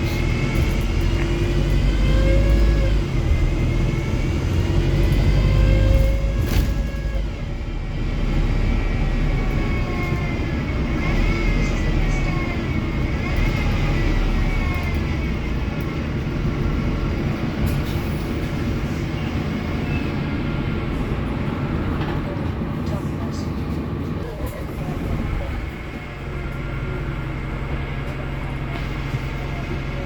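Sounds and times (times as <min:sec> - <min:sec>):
bus diesel engine rumble: 0:00.0 - 0:30.0.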